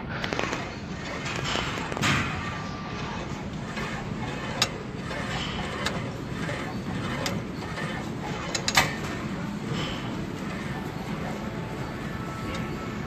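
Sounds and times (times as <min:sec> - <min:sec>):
gym room noise: 0:00.0 - 0:13.0.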